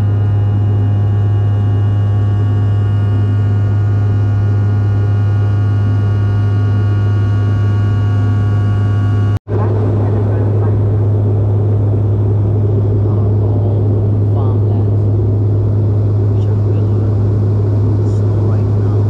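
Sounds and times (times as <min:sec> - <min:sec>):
jet cabin low drone: 0:00.0 - 0:19.0
whining engine tones: 0:00.0 - 0:19.0.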